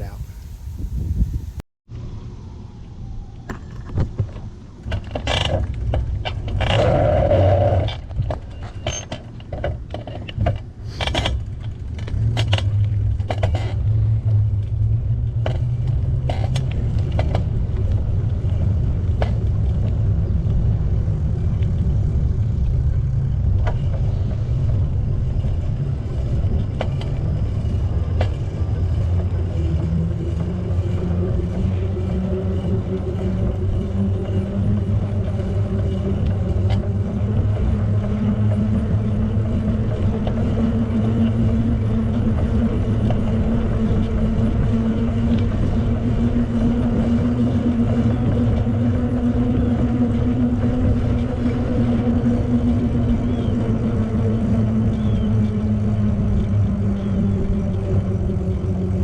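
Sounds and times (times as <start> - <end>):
wind and tyre rumble: 0.0 - 59.0.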